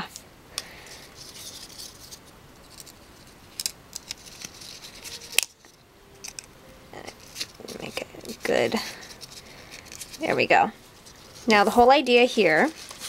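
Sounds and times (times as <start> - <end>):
cardstock crinkling and rustling: 0.9 - 6.5, 7.1 - 10.4, 11.0 - 13.0.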